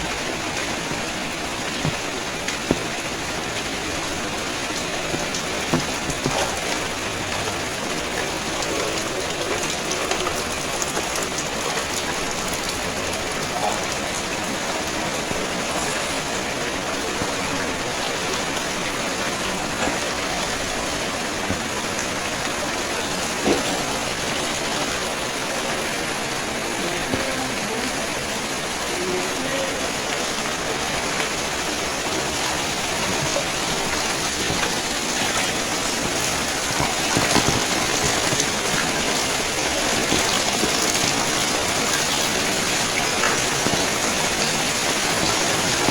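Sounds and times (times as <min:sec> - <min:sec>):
sharp drips: 0:00.0 - 0:45.9
steady rain falling: 0:00.0 - 0:45.9.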